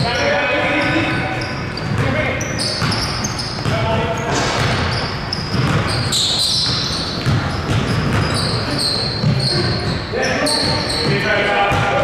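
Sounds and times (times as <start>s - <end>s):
sneaker squeaks: 0.0s - 12.0s
basketball bouncing on court: 0.8s - 12.0s.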